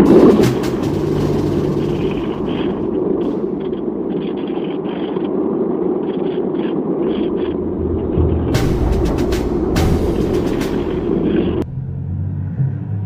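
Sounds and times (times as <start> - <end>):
airflow and motor rumble: 0.0 - 13.0.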